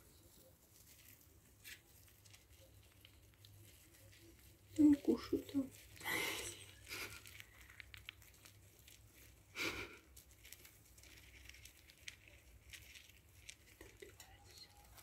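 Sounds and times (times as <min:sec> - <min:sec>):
hamsters rustling in wood shavings: 0:00.0 - 0:15.0.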